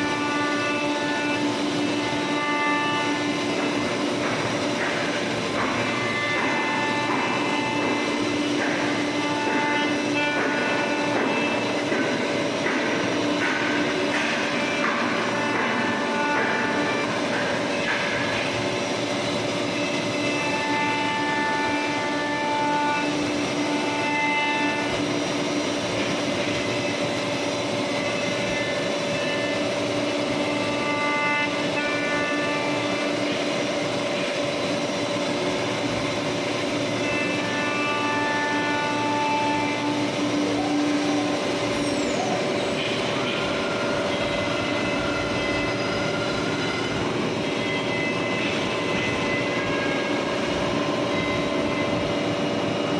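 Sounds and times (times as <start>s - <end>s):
cnc router milling wood: 0.0s - 52.9s.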